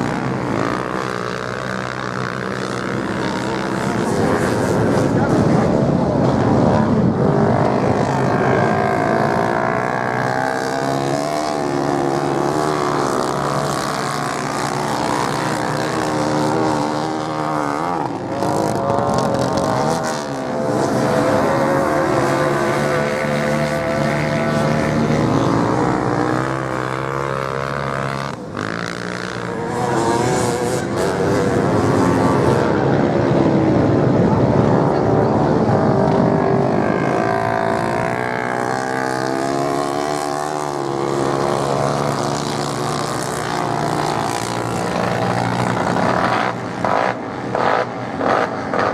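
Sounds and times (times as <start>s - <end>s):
racing motorcycle engines: 0.0s - 48.9s.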